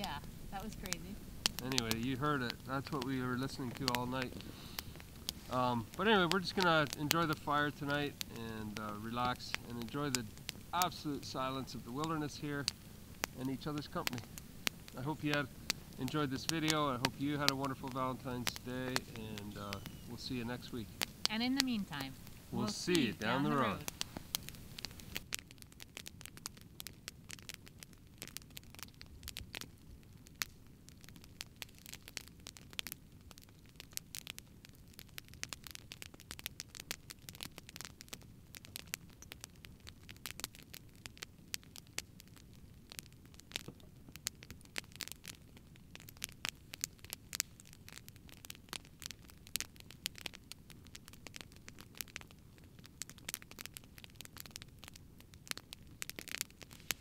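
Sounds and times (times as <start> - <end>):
campfire crackling and popping: 0.0 - 57.0
low rush of flame: 0.0 - 57.0.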